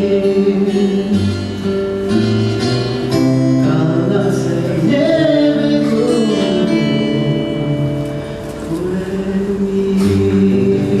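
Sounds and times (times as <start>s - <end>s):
man singing into a microphone: 0.0s - 2.2s, 3.5s - 11.0s
acoustic guitar chords: 0.0s - 11.0s.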